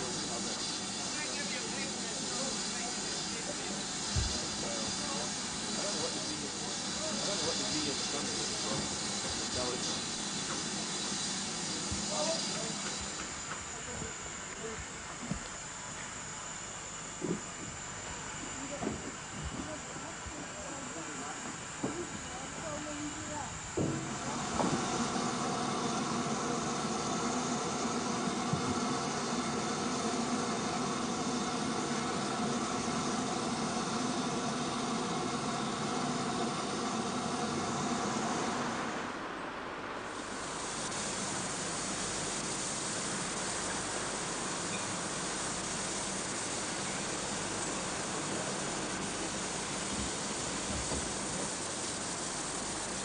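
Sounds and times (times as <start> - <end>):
steam locomotive hissing: 0.0 - 53.0.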